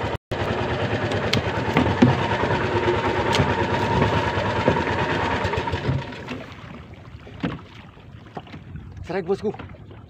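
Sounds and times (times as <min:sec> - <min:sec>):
small boat engine humming: 0:00.0 - 0:10.0.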